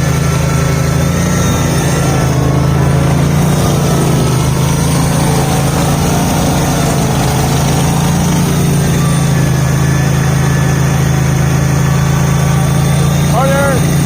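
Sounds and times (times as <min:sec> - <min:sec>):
garden tractor engine idling: 0:00.0 - 0:14.0.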